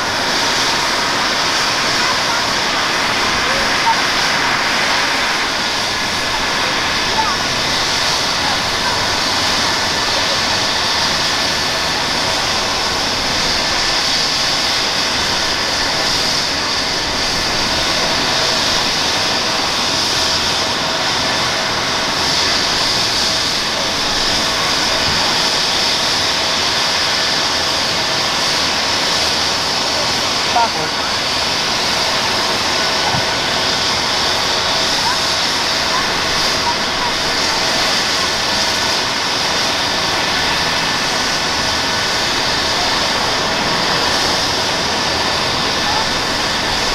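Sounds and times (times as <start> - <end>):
helicopter turbine whine: 0.0 - 46.9.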